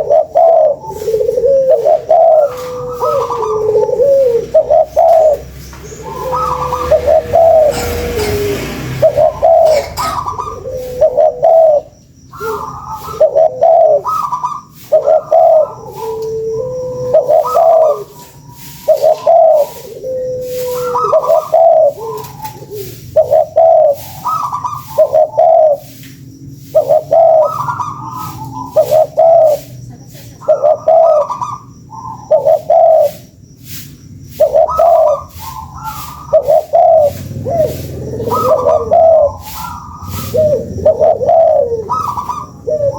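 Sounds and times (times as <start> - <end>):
doves cooing: 0.0 - 42.9.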